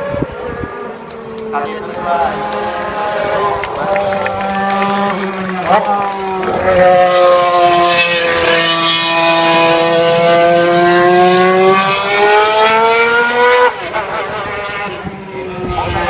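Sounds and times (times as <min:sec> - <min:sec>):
racing car engine wailing: 0:00.0 - 0:16.0.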